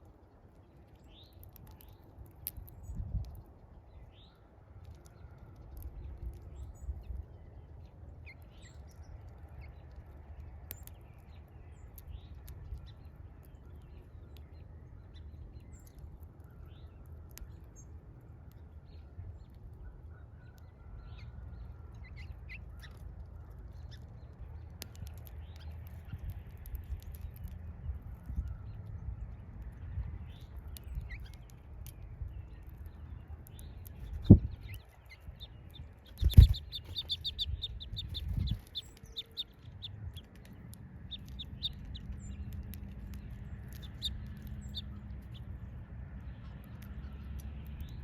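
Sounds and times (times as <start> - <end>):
small birds chirping: 0.0 - 48.0
steady low rumble: 0.9 - 48.0.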